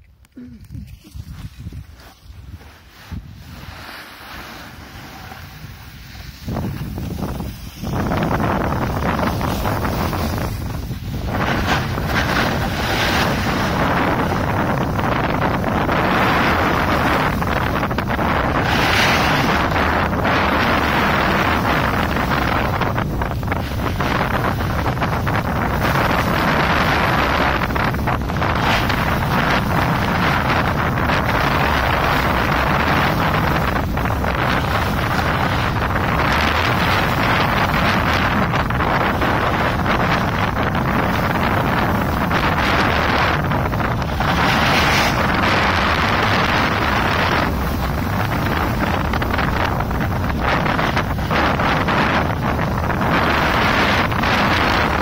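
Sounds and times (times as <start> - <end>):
wind rushing over microphone: 0.0 - 55.0
snowboard scraping snow: 0.8 - 55.0.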